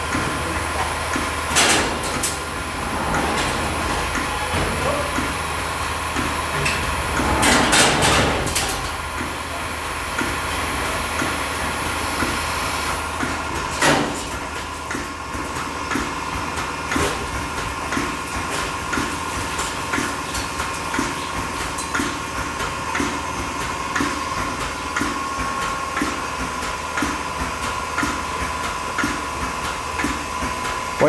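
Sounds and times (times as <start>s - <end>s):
machinery humming: 0.0s - 31.0s.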